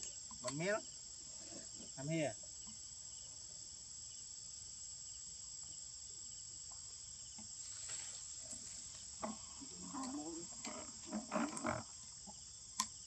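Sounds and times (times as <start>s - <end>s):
insects chirping chorus: 0.0s - 13.0s.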